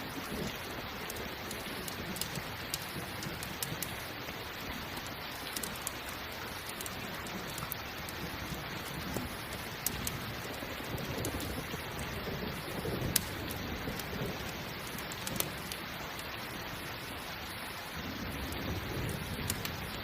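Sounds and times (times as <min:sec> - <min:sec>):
campfire crackling: 0:00.0 - 0:20.0
steady rain: 0:00.0 - 0:20.0.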